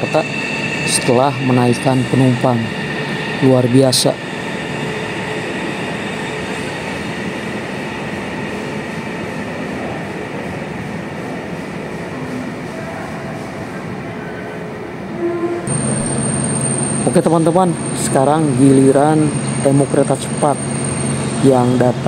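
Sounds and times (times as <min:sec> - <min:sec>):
electric train pulling away: 0:00.0 - 0:22.0.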